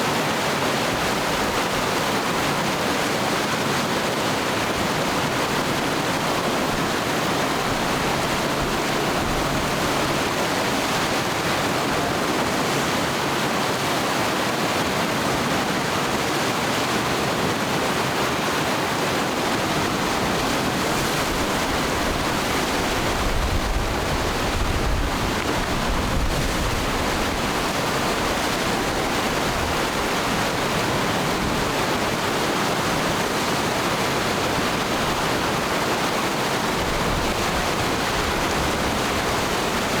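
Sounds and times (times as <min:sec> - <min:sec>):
rushing river rapids: 0:00.0 - 0:40.0.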